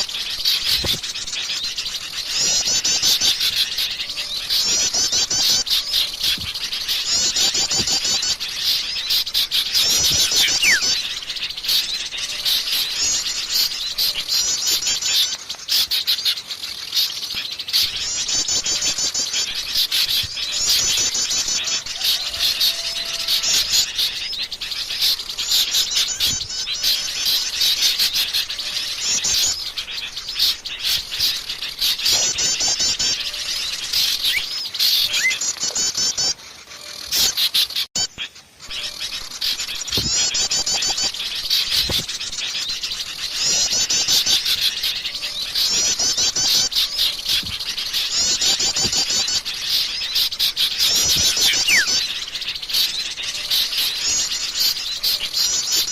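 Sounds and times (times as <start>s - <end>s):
songbirds chirping and twittering: 0.0s - 55.9s.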